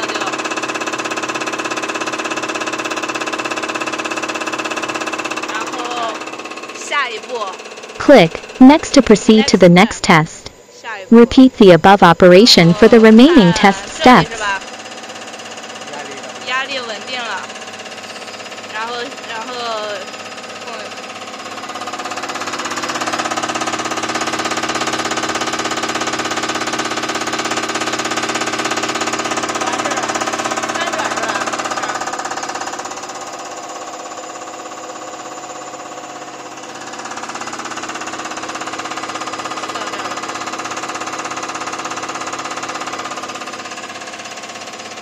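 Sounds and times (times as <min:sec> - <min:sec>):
test bench pump drive running: 0:00.0 - 0:45.0.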